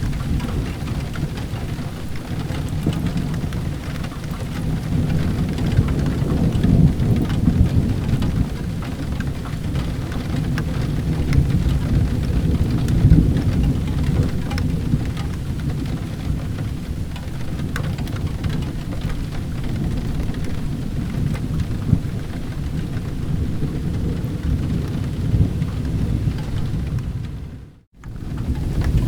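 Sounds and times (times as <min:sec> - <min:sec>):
low rumble of thunder: 0:00.0 - 0:29.0
steady rain: 0:00.0 - 0:29.0.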